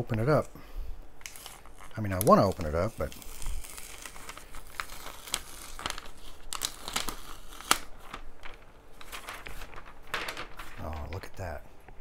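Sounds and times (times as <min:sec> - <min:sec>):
paper crinkling and crackling: 0:01.2 - 0:12.0.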